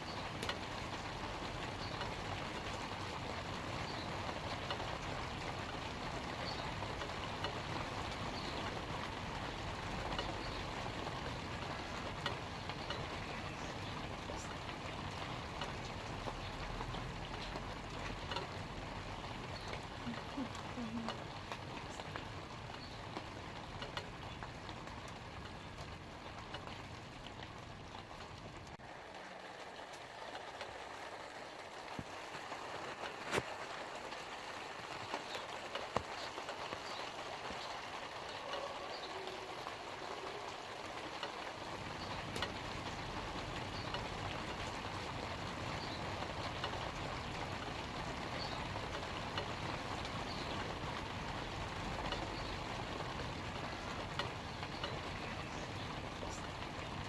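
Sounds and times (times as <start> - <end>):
light rain falling on leaves: 0.0 - 57.0.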